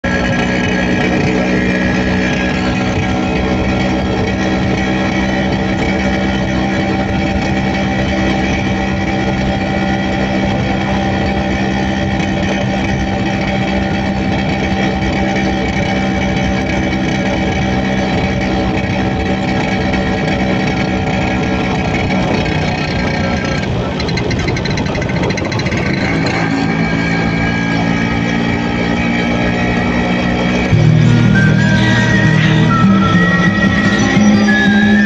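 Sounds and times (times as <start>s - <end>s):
scooter engine running: 0.0s - 35.0s.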